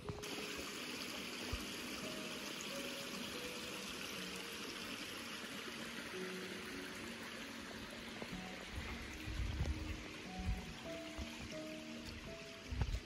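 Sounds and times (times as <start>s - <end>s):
stream running over rocks: 0.0s - 13.0s.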